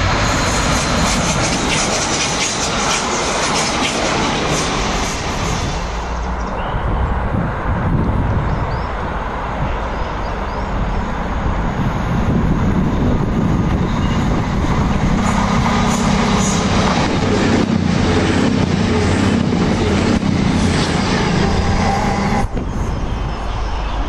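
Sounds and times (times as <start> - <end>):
train rushing past: 0.0 - 24.0.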